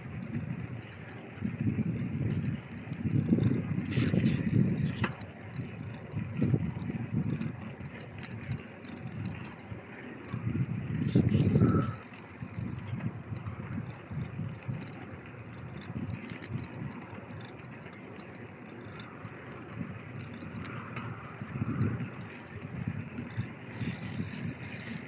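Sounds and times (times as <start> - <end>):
bicycle rumbling and rattling: 0.0 - 25.0.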